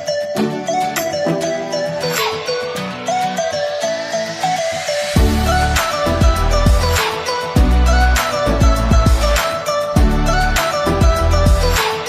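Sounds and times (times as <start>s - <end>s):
sustained melody: 0.0s - 12.0s.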